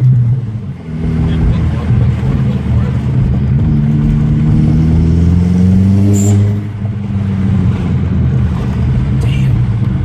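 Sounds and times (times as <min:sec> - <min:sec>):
turbocharged engine revving: 0:00.0 - 0:10.0.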